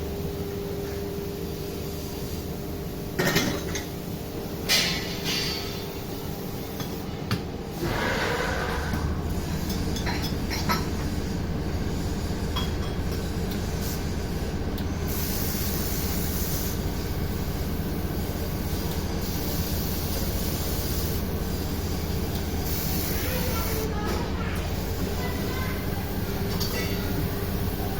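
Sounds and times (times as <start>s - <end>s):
factory machinery humming: 3.7s - 27.9s.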